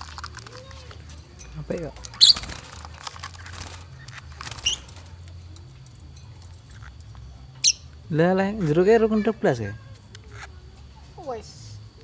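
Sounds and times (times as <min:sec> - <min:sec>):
lovebirds chirping shrilly: 0:00.0 - 0:12.0.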